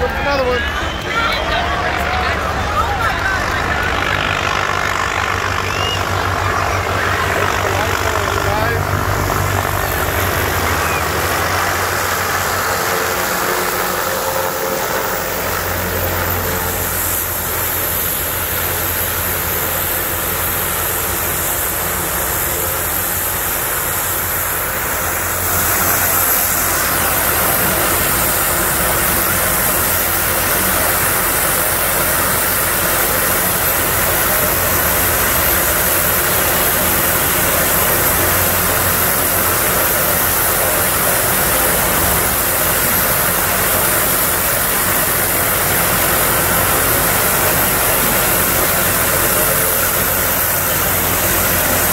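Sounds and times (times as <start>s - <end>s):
helicopter turbine and rotor: 0.0s - 51.9s.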